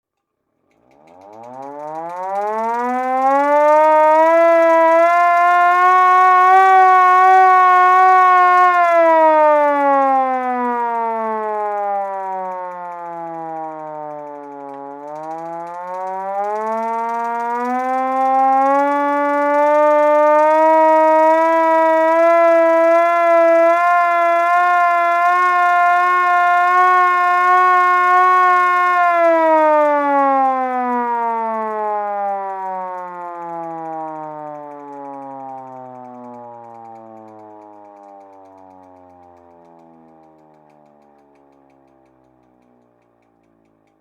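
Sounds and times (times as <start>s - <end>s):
fire siren wailing: 0.8s - 44.0s.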